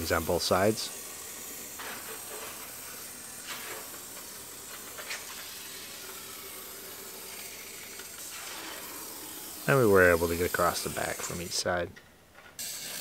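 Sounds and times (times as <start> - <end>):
spray hissing: 0.0 - 11.8.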